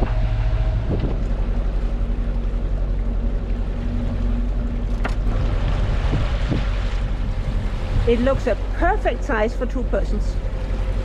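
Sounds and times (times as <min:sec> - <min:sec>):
boat engine drone: 0:00.0 - 0:11.0
rushing water: 0:00.0 - 0:11.0
wind: 0:00.0 - 0:11.0.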